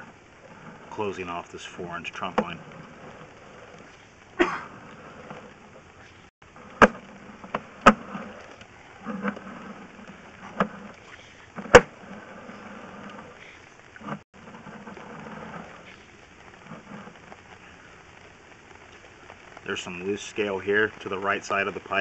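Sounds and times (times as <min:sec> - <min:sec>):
low steady hum: 0:00.0 - 0:20.1.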